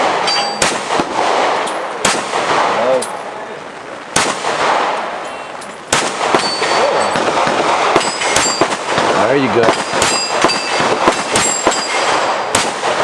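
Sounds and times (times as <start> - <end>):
pistol shots: 0.0 - 3.1, 4.1 - 13.0
pistol shots with echo: 0.0 - 3.2, 4.1 - 13.0.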